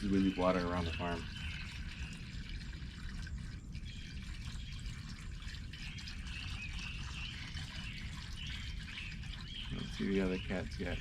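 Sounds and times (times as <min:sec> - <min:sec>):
water trickling from a hose: 0:00.0 - 0:11.0.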